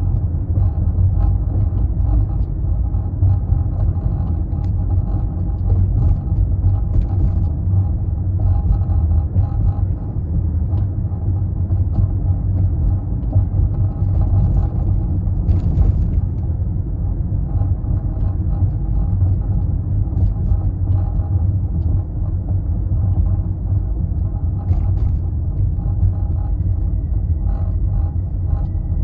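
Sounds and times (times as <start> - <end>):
road rumble inside car: 0.0 - 29.0.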